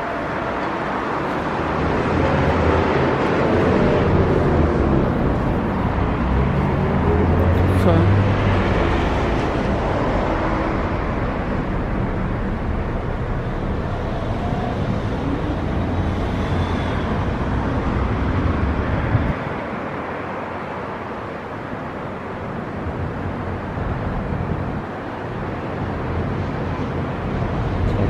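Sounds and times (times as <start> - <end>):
cars going by: 0.0 - 28.0.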